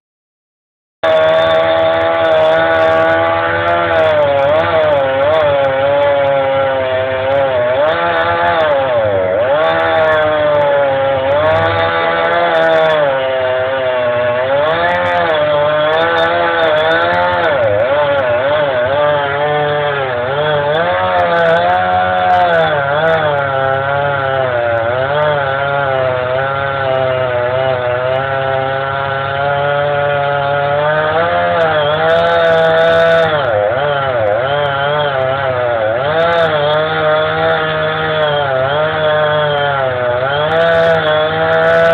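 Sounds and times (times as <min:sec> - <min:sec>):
chainsaw engine revving: 0:01.0 - 0:41.9.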